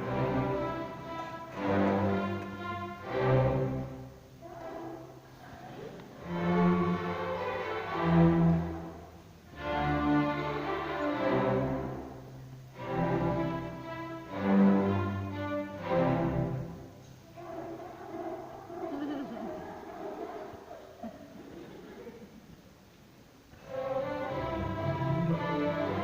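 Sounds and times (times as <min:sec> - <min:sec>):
orchestra with bowed strings: 0:00.0 - 0:19.6, 0:23.5 - 0:26.0.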